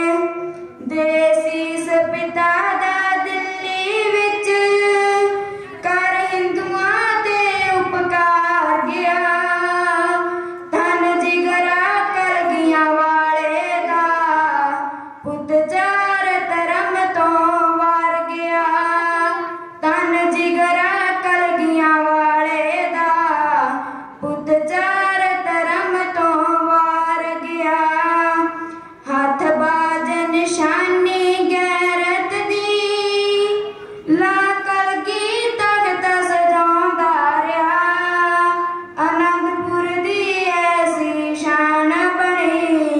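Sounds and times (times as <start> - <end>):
girl singing unaccompanied: 0.0 - 42.9.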